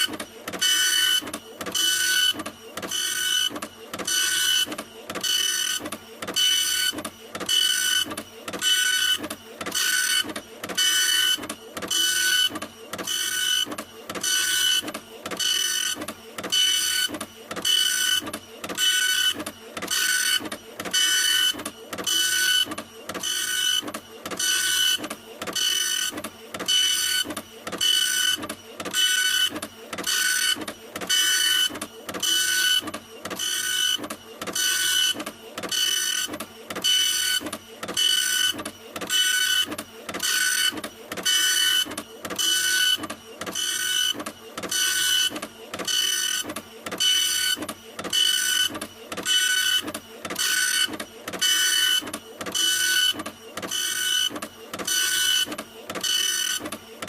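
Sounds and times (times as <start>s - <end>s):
printer mechanical strokes: 0.0s - 57.0s.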